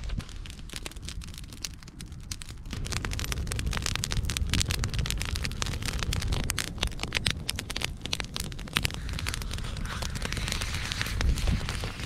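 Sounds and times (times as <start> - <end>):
campfire crackling and popping: 0.0 - 12.0
low steady fire rumble: 0.0 - 12.0.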